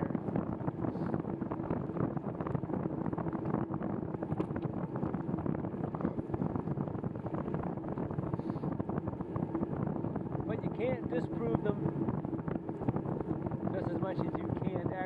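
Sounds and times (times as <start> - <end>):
faint low hum: 0.0 - 15.0
wind buffeting microphone: 0.0 - 15.0.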